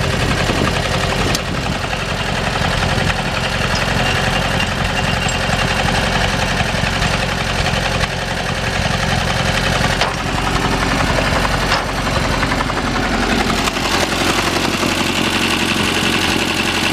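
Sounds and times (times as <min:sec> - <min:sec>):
tractor engine running: 0:00.0 - 0:16.9.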